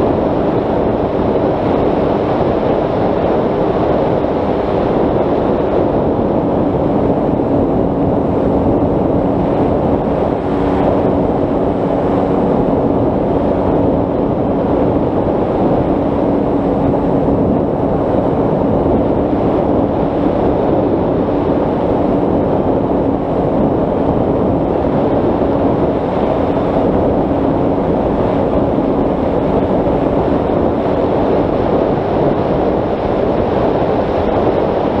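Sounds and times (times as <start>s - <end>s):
electric motor and propeller humming: 0.0s - 35.0s
wind rushing over camera: 0.0s - 35.0s.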